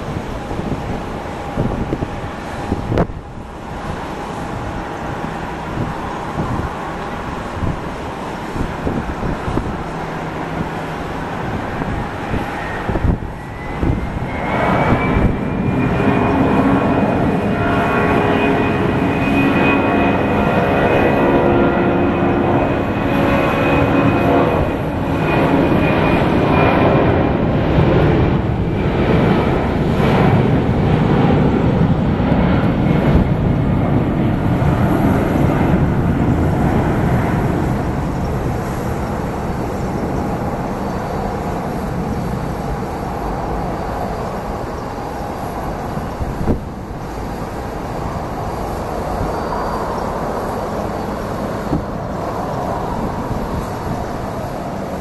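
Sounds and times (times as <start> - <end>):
jet engine roar with whine: 0.0 - 55.0.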